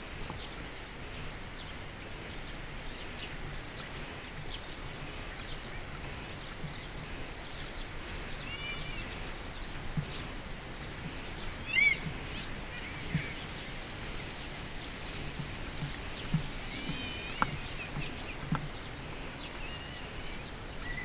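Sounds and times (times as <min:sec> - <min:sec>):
footsteps on dirt: 0:00.0 - 0:21.0
outdoor city hum: 0:00.0 - 0:21.0.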